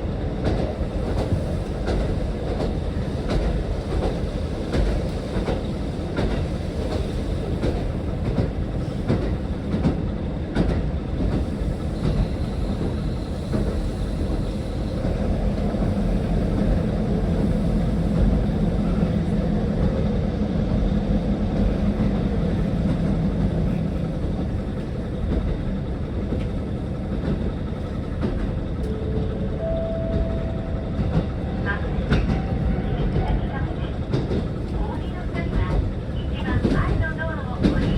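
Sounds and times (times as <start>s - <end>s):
railcar rumbling on track: 0.0s - 37.9s
rail joint clicks: 0.1s - 37.9s.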